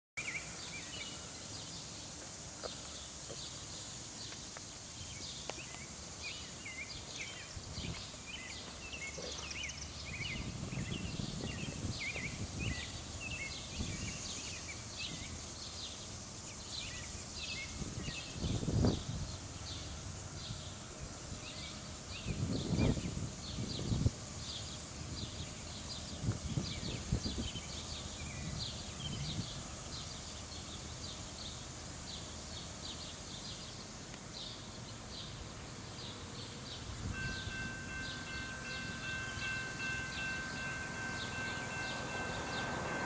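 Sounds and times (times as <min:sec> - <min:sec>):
steady high hiss: 0:00.2 - 0:43.0.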